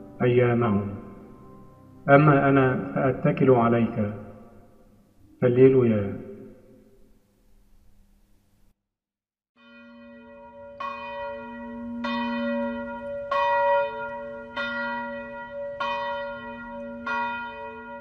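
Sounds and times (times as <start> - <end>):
church bell tolling: 0.0 - 6.6, 9.6 - 18.0.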